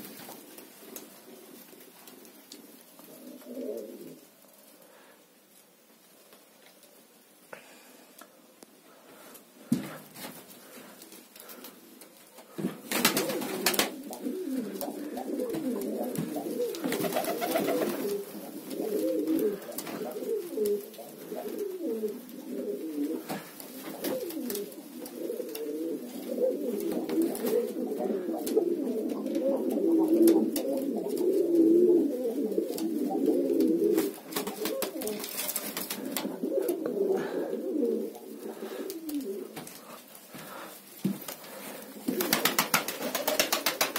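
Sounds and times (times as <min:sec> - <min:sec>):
pigeons cooing: 0:00.0 - 0:05.6, 0:10.5 - 0:43.9.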